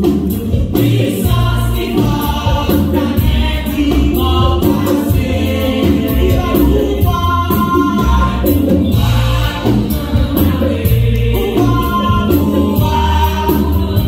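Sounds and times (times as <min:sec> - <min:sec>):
electric bass guitar: 0:00.0 - 0:14.0
steady drum beat: 0:00.0 - 0:14.0
backing singers in harmony: 0:00.4 - 0:14.0.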